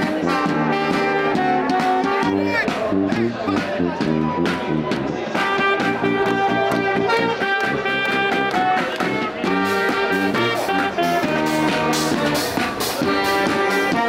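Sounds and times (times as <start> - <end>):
background music with beat: 0.0 - 14.0.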